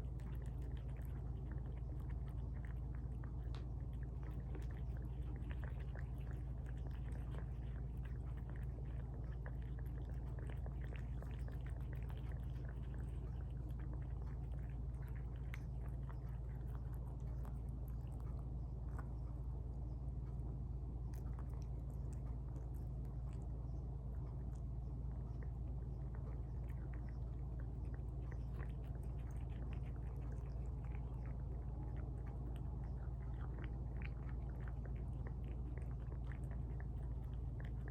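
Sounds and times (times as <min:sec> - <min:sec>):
cats chewing and smacking: 0:00.0 - 0:37.9
low hum: 0:00.0 - 0:37.9.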